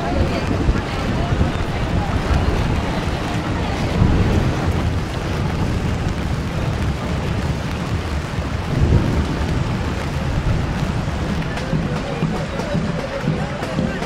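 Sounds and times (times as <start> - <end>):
rain hiss: 0.0 - 14.0
wind buffeting microphone: 0.0 - 14.0.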